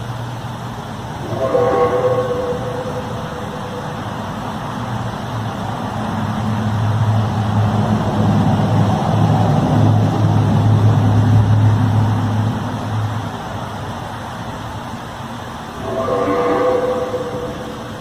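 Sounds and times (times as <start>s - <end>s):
low droning hum: 0.0s - 13.6s, 15.3s - 18.0s
noisy background: 0.0s - 18.0s.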